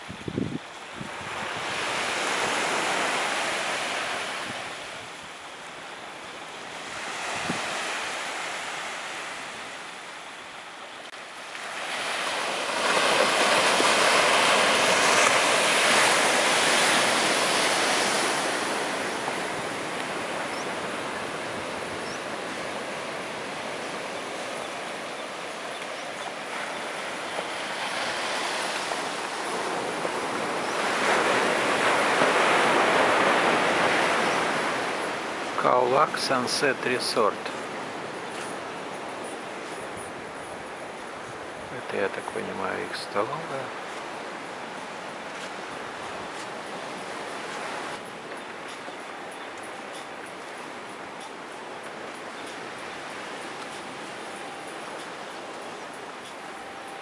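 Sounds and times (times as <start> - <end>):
waves washing up a beach: 0.0 - 57.0.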